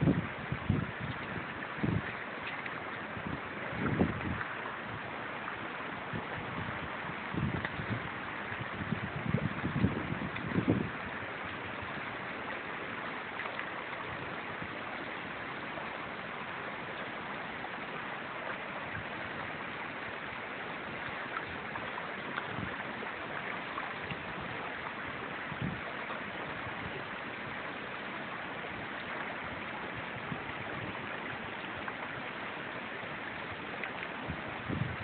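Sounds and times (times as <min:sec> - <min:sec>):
stream water rushing over gravel: 0:00.0 - 0:35.0.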